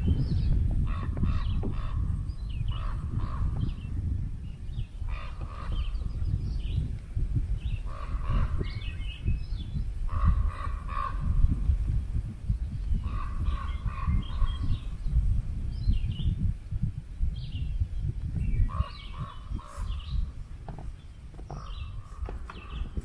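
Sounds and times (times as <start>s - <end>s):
birds calling: 0.0s - 16.5s, 17.2s - 23.0s
steady low rumble: 0.0s - 23.0s.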